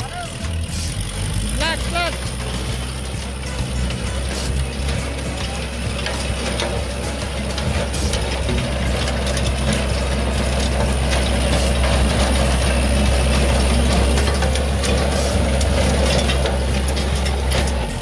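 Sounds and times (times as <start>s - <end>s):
mechanical clatter: 0.0s - 18.0s
tractor engine drone: 0.0s - 18.0s.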